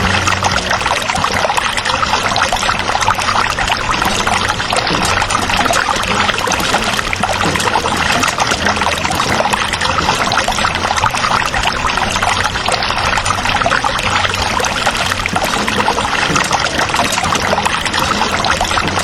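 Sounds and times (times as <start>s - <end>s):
water splashing into pond: 0.0s - 19.0s.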